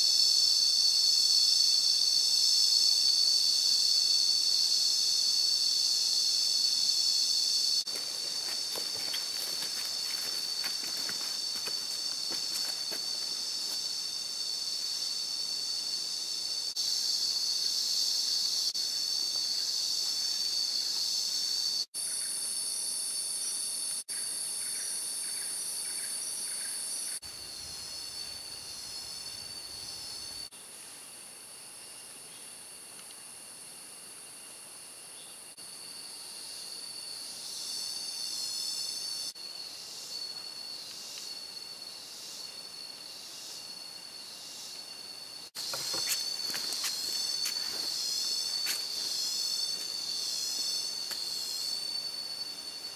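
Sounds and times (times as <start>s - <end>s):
insect shrilling and trilling: 0.0s - 30.6s, 35.8s - 52.9s
pulsing insect call: 0.0s - 52.9s.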